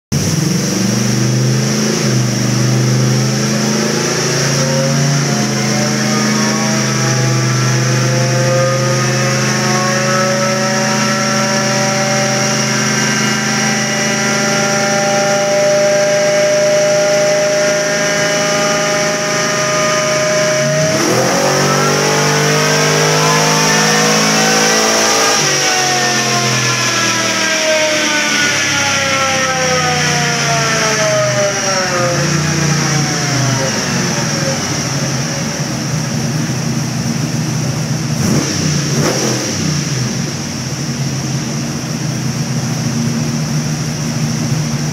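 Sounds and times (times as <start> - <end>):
engine revving on dyno: 0.1 - 44.9.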